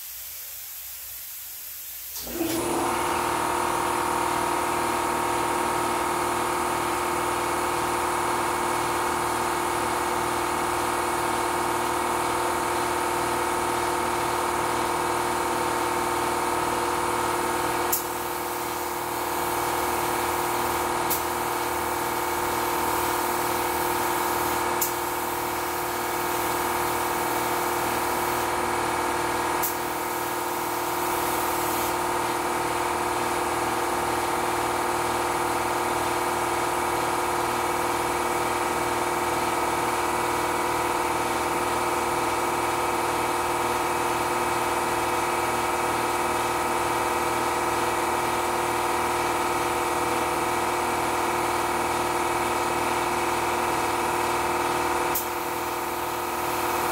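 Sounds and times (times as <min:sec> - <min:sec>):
air compressor humming: 0:00.0 - 0:56.9.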